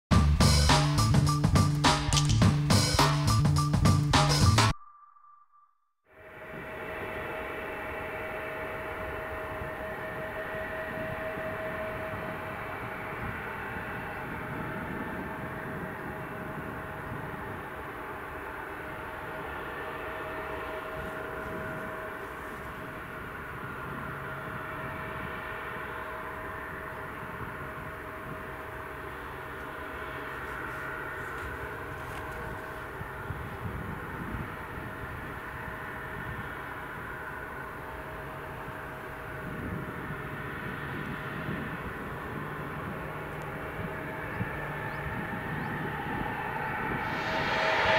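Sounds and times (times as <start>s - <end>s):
jet engines whining: 6.2s - 47.9s.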